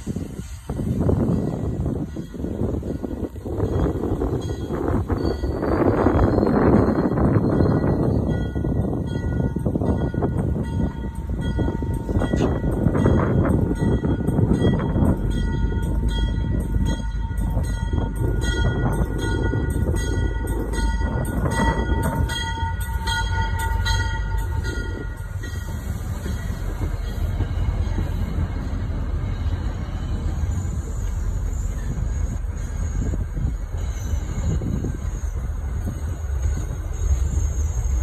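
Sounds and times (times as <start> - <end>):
train rumbling on track: 0.0 - 38.0.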